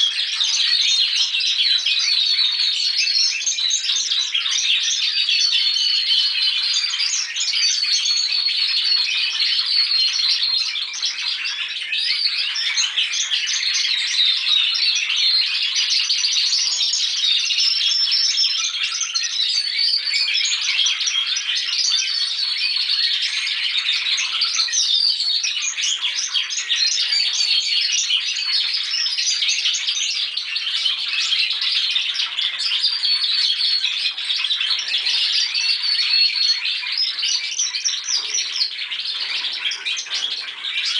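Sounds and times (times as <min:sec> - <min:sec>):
canaries singing in chorus: 0:00.0 - 0:40.9.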